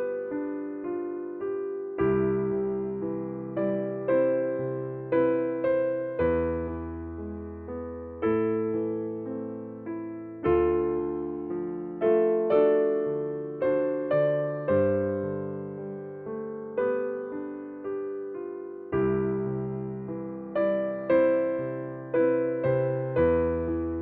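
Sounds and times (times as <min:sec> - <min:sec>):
gentle electric piano: 0:00.0 - 0:24.0.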